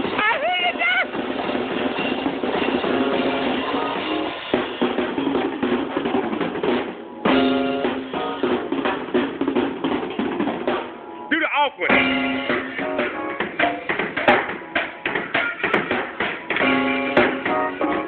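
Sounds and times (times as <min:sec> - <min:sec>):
drum kit rapid strikes: 0:00.0 - 0:18.0
pitched music: 0:00.0 - 0:18.0.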